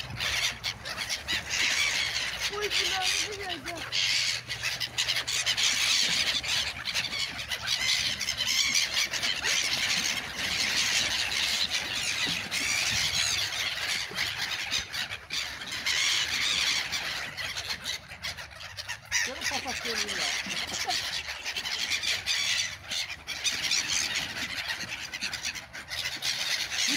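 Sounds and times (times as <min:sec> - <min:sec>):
gulls squealing cries: 0:00.0 - 0:26.9.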